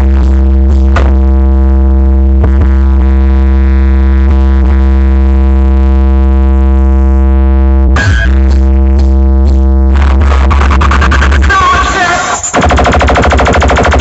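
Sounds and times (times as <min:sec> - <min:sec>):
loud electronic music: 0:00.0 - 0:14.0.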